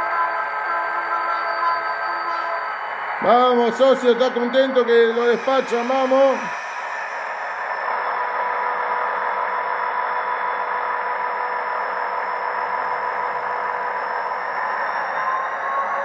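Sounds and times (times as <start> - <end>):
diesel engine sound from small speaker: 0.0 - 16.0.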